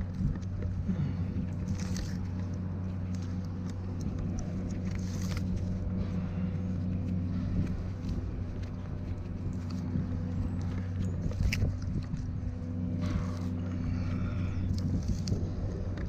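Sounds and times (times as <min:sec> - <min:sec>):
engine droning: 0:00.0 - 0:16.0
faint clicks and rustles: 0:00.0 - 0:16.0.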